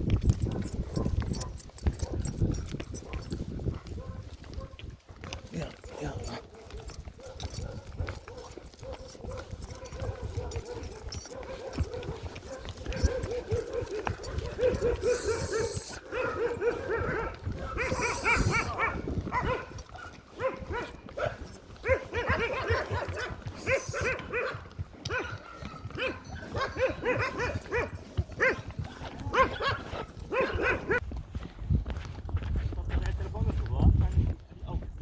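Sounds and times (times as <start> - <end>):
dogs yapping: 0.4 - 31.0.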